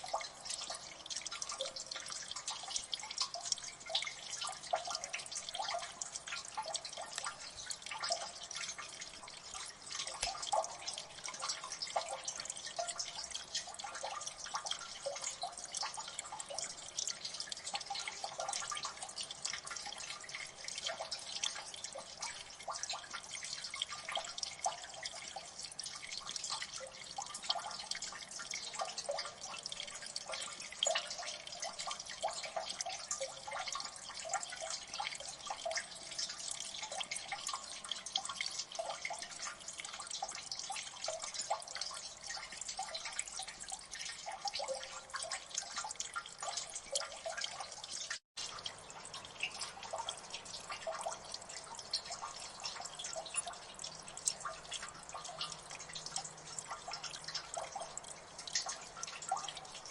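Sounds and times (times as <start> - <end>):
running water: 0.0 - 59.9
water drops pattering: 0.0 - 59.9.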